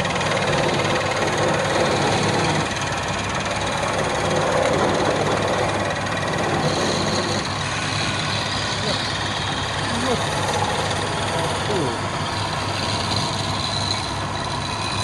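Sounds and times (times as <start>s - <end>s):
lathe drive low hum: 0.0s - 15.0s
wood grinding against wood: 0.0s - 15.0s.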